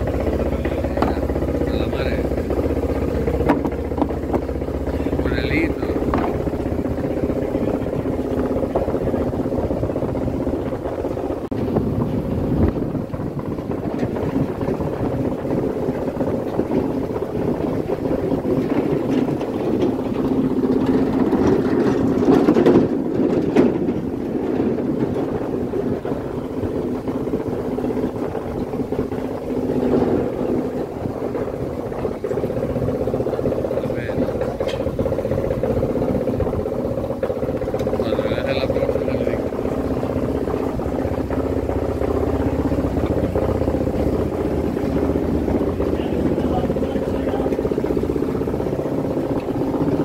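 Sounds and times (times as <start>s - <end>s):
boat diesel engine idling: 0.0s - 50.0s
engine knocks: 0.0s - 50.0s.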